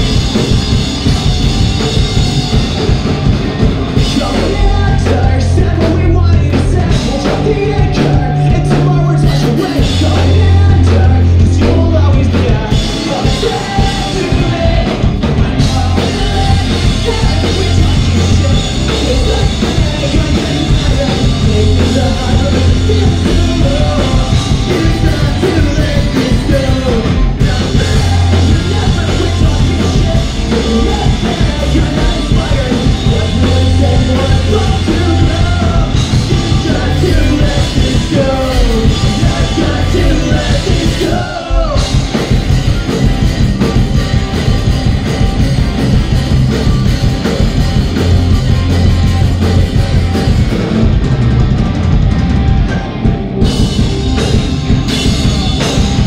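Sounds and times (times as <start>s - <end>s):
bass guitar: 0.0s - 56.0s
drum kit: 0.0s - 56.0s
electric guitars: 0.0s - 56.0s
man singing and shouting: 3.9s - 49.9s.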